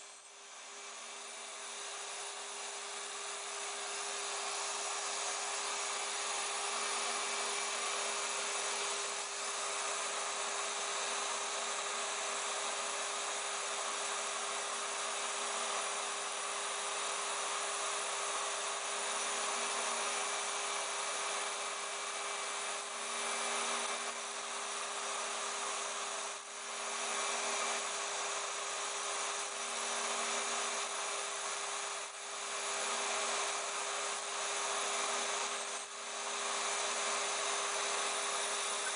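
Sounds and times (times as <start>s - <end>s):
router spindle whine: 0.0s - 38.9s.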